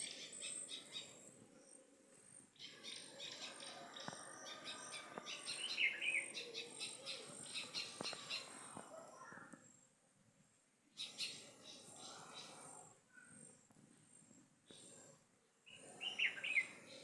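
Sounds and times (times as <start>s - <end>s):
birds chirping: 0.0s - 9.8s, 11.0s - 13.6s, 14.7s - 17.0s.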